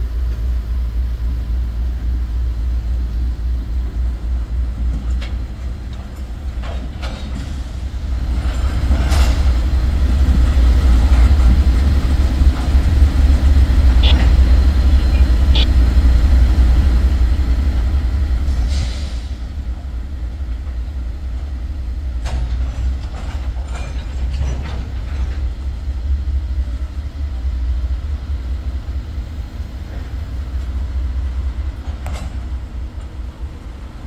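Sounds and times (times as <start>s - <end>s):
diesel locomotive engine rumble: 0.0s - 34.0s
train wheels clicking on rails: 3.2s - 34.0s.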